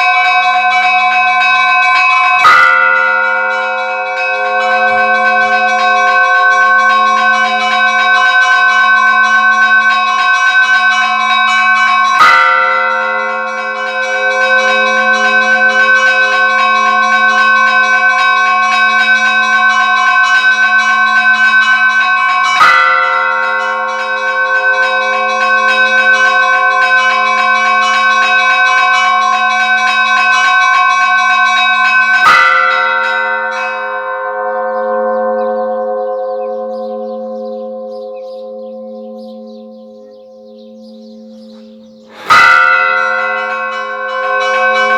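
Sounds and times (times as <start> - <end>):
heavy church bell strokes: 0.0 - 44.9
small church bells ringing: 0.0 - 44.9.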